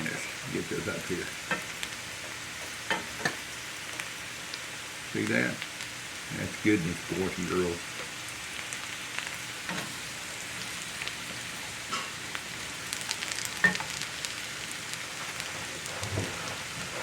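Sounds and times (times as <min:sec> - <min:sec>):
frying crackles and pops: 0:00.0 - 0:17.0
potatoes sizzling in skillet: 0:00.0 - 0:17.0.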